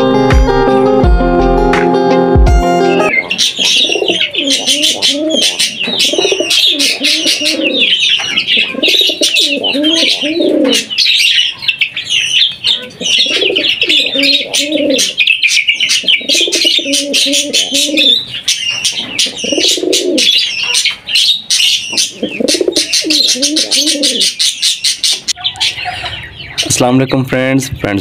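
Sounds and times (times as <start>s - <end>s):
pigeon cooing: 2.9s - 26.7s
budgerigars chirping and chattering: 3.1s - 28.0s.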